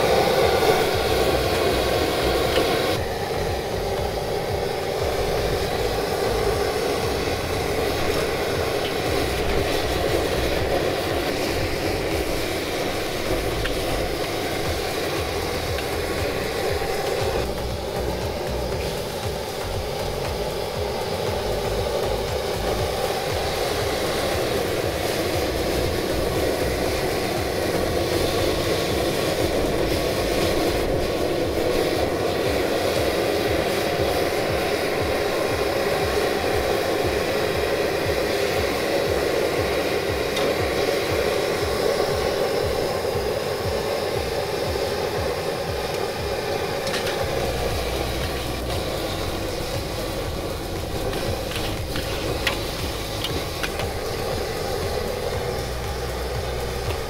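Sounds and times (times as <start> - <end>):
gas burner rushing: 0.0 - 57.0
rice noodles frying: 0.0 - 57.0.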